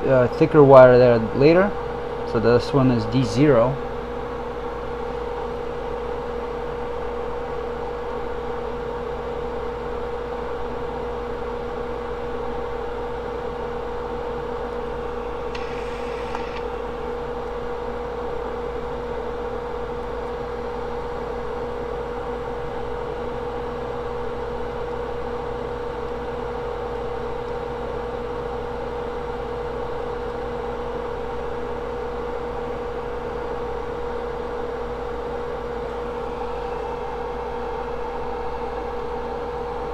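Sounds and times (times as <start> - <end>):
steady mid-pitched hum: 0.0 - 39.9.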